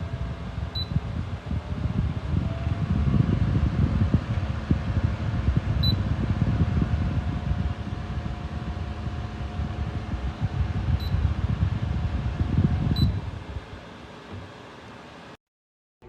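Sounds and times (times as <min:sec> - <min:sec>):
faint steady fan hum: 0:00.0 - 0:15.4
fan airflow buffeting microphone: 0:00.0 - 0:15.4.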